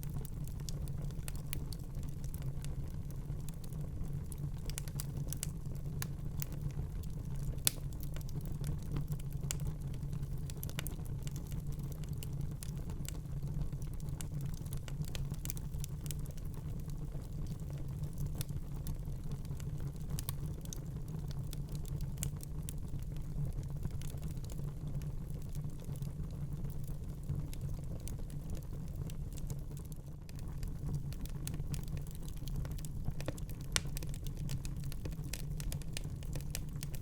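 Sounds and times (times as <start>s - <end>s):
fire crackles and pops: 0.0s - 37.0s
low fire rumble: 0.0s - 37.0s.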